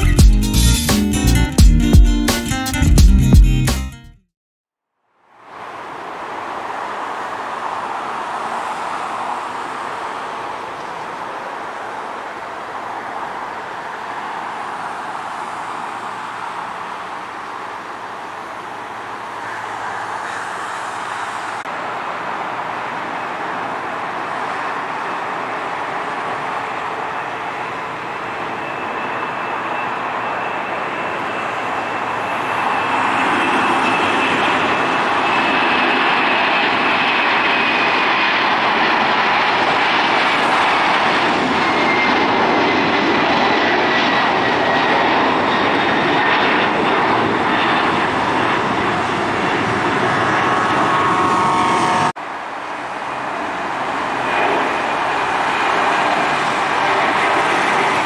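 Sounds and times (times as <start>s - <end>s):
jet engine noise: 5.3s - 58.0s
jet engines spooling up whine: 5.3s - 58.0s.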